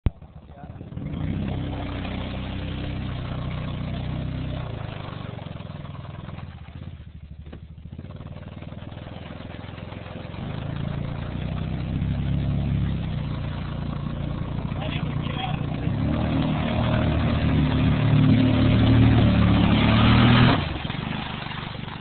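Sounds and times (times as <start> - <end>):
atv engine revving: 0.1 - 22.0.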